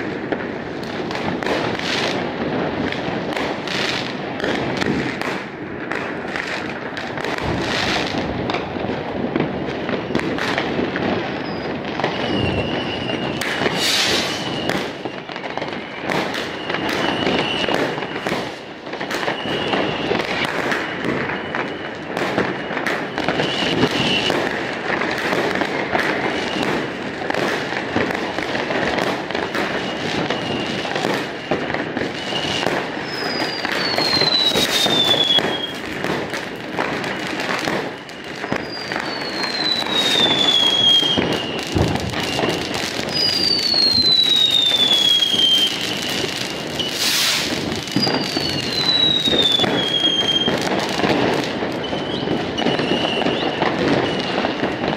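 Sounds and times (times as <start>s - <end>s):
fireworks crackling and banging: 0.0s - 54.9s
high firework whistle: 0.0s - 54.9s.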